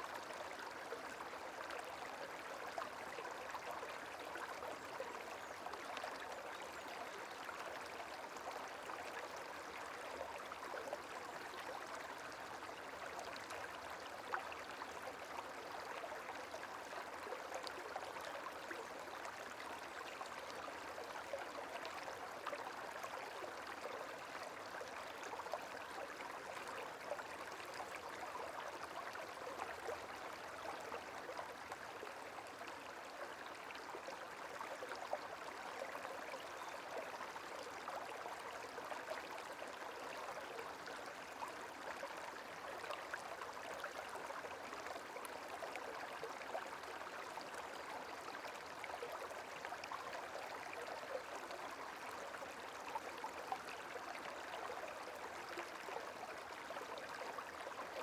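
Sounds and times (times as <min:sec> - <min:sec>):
stream water babbling: 0:00.0 - 0:58.0.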